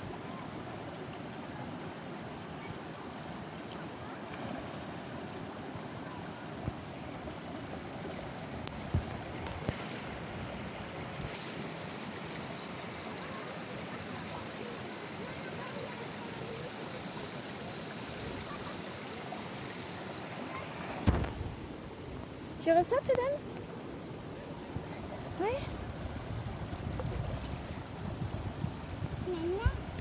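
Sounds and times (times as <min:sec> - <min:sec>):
river water running over rocks: 0:00.0 - 0:30.0.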